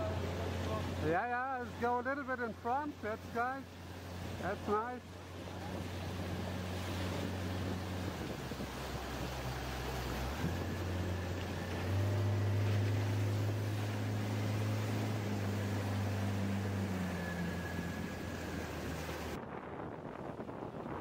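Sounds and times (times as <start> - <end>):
motorboat engine droning: 0.0 - 21.0
rushing water: 0.0 - 21.0
wind: 0.0 - 21.0.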